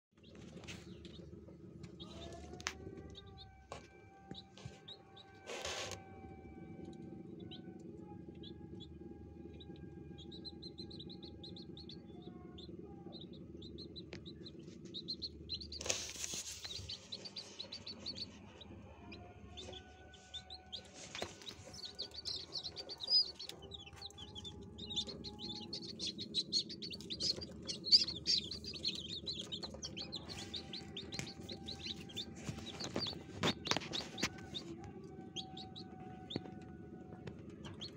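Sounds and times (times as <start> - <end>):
chicks peeping: 0.2 - 37.9
incubator hum: 0.2 - 37.9.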